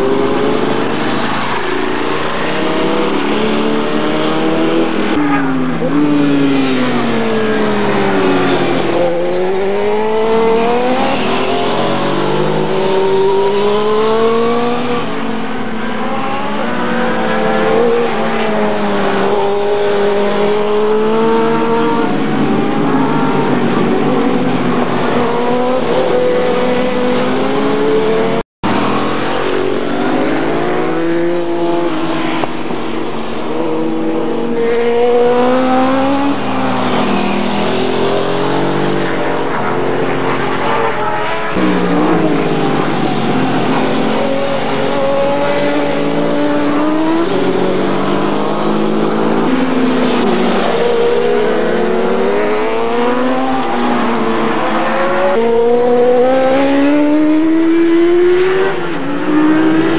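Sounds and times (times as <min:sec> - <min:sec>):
racing motorcycles accelerating: 0:00.0 - 0:59.9.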